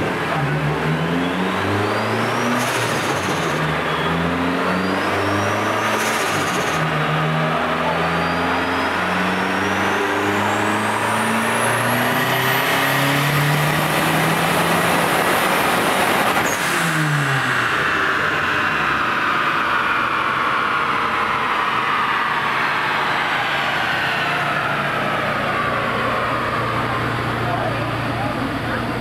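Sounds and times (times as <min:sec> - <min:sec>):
car engine revving at full throttle: 0:00.0 - 0:29.0
high turbo whistle: 0:00.7 - 0:14.4, 0:16.4 - 0:27.7.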